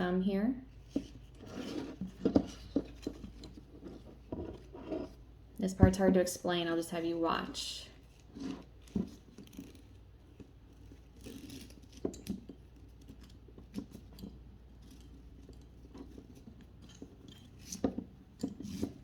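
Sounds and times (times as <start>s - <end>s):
strap rustling: 0.8s - 5.5s, 8.0s - 19.0s.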